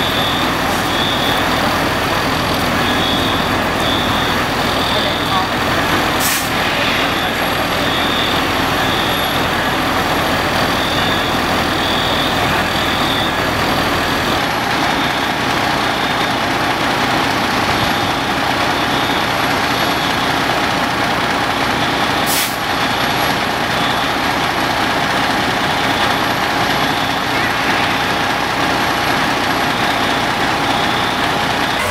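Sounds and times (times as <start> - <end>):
diesel engines idling: 0.0 - 31.9.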